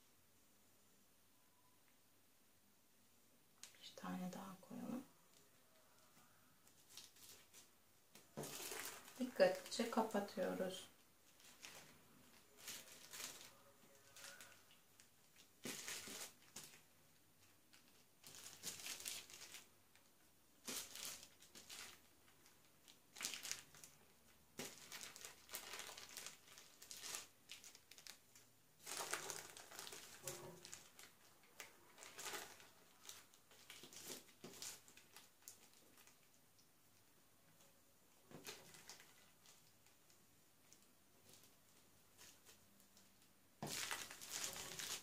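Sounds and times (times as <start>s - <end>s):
plastic film crinkling: 5.3s - 37.2s, 38.2s - 45.0s.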